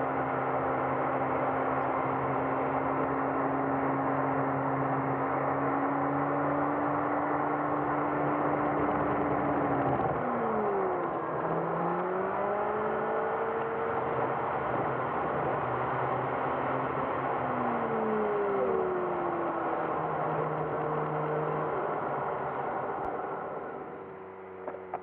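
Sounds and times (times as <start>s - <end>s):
car engine hum: 0.0s - 25.0s.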